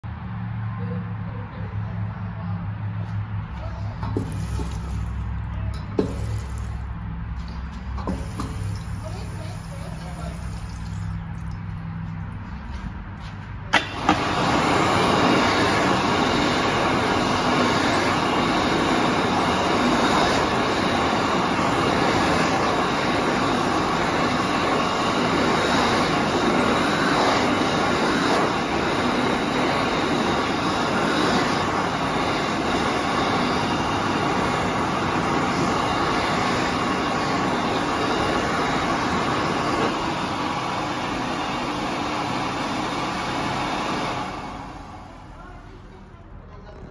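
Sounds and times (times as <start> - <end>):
hand dryer fan running: 1.3 - 46.9.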